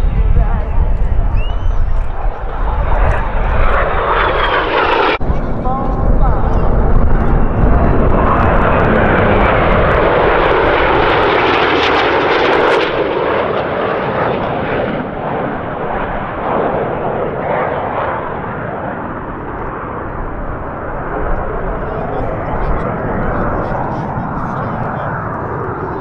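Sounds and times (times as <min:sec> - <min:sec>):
jets passing overhead: 0:00.0 - 0:26.0.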